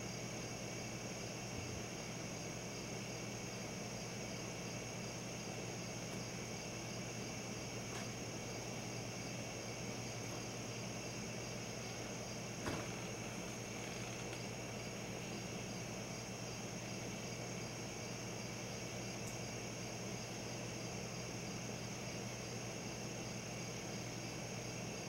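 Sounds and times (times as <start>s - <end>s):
constant hiss: 0.0s - 25.0s
night insect chorus: 0.0s - 25.0s.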